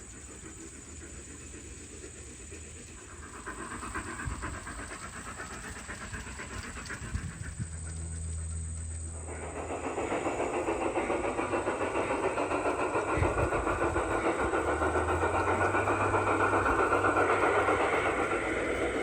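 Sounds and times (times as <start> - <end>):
model train wheels clattering: 0.0 - 19.0.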